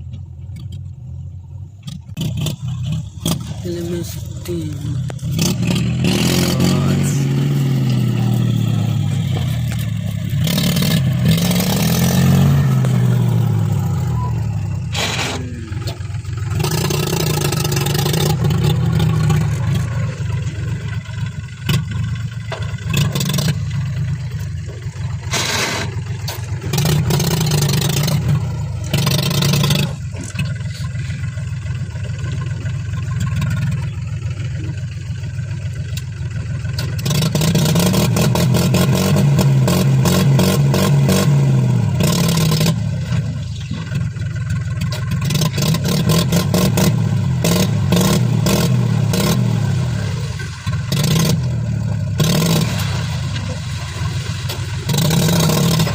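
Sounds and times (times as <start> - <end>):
diesel machinery engine revving: 0.0 - 55.9.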